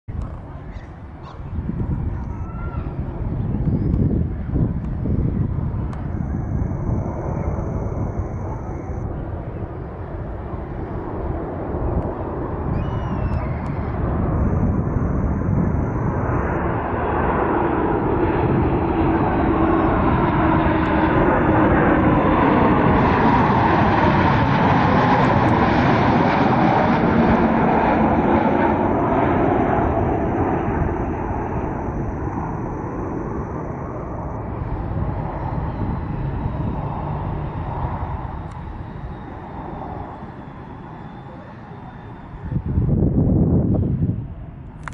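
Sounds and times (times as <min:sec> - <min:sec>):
jet plane passing overhead: 0:00.1 - 0:44.9.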